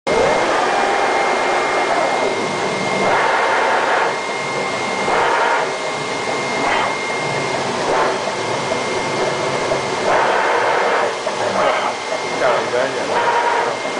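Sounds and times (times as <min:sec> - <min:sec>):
cutting head motor surges: 0:00.1 - 0:13.9
cutting plotter hiss and whine: 0:00.1 - 0:13.9.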